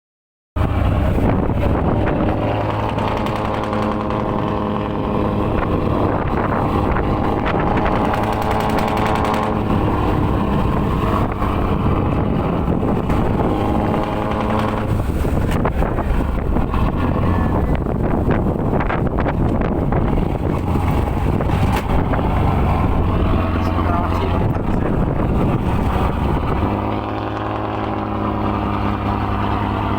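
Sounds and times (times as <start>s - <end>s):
boat engine running: 0.6s - 29.9s
wind rumbling on microphone: 0.6s - 29.9s.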